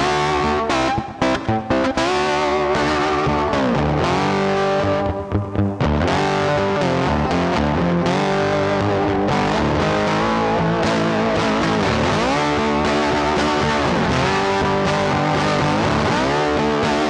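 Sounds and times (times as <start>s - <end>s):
electric guitar music with bent notes: 0.0s - 17.0s.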